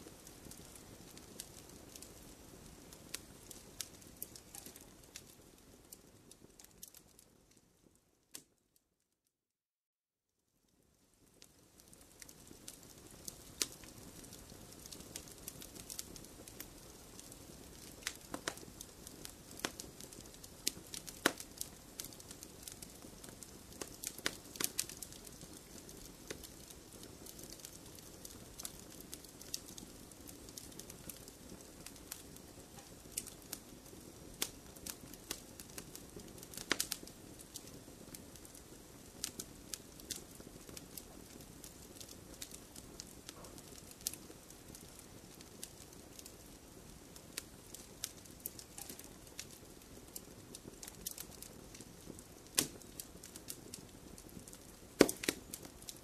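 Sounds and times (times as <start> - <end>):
fire crackling in fireplace: 0.0 - 8.8, 10.6 - 56.0.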